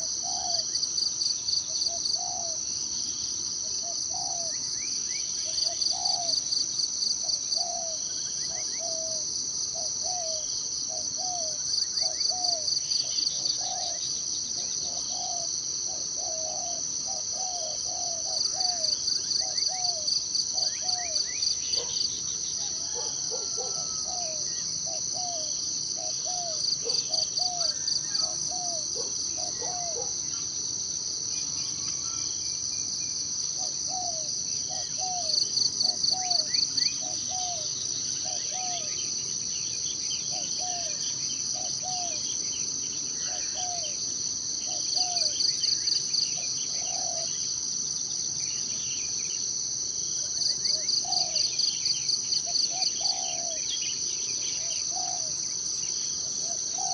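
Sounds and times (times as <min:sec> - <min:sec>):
insects droning: 0:00.0 - 0:56.9
pulsing insect trill: 0:00.0 - 0:56.9.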